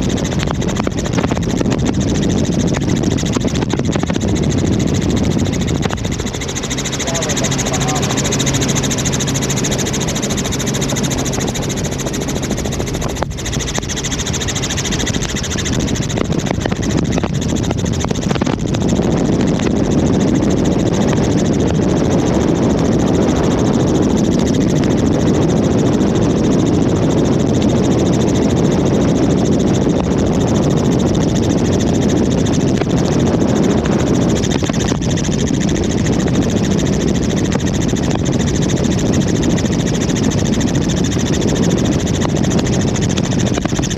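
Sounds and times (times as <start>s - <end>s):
helicopter engine and rotor drone: 0.0s - 43.9s
low hum: 0.0s - 43.9s.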